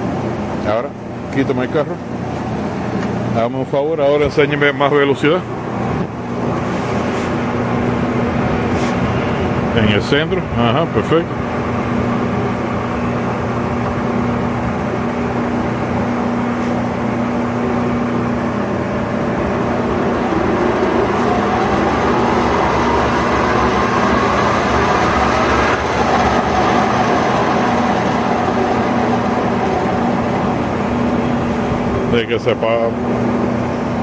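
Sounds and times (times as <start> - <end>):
lathe running hum: 0.0 - 34.0
spindle whine rising in pitch: 1.4 - 34.0.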